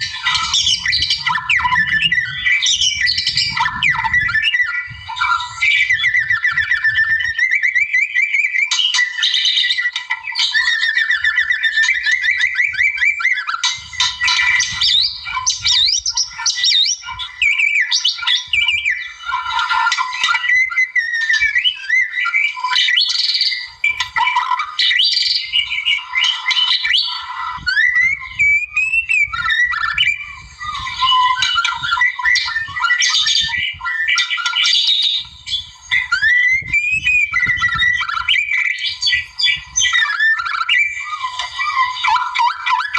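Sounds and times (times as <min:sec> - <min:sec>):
songbird whistling and trilling: 0:00.0 - 0:42.9.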